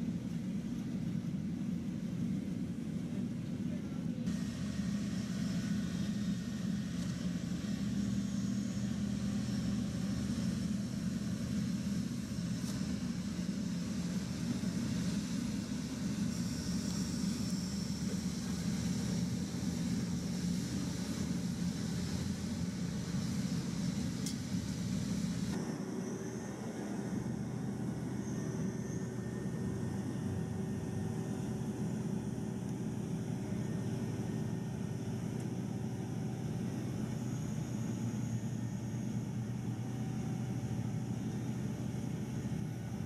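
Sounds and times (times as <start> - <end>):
large diesel engine droning: 0.0 - 43.0.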